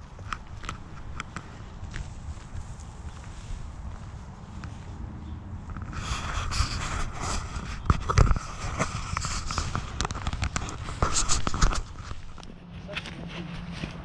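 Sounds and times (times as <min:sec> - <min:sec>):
grass rustling and crackling: 0:00.0 - 0:14.0.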